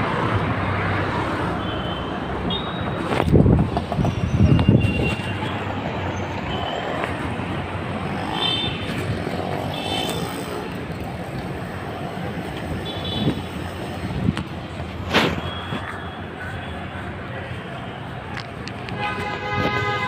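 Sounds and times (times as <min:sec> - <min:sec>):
traffic hum: 0:00.0 - 0:20.0.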